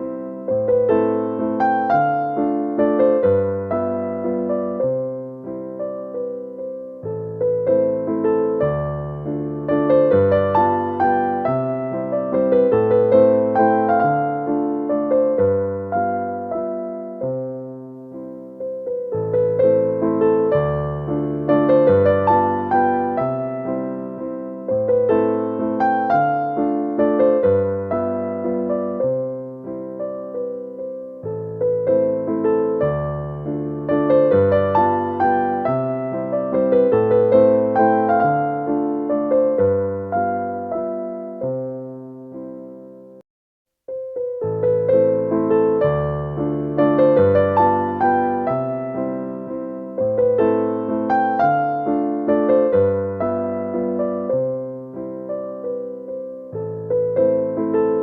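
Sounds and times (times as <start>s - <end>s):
slow piano music: 0.0s - 43.2s, 43.8s - 58.0s.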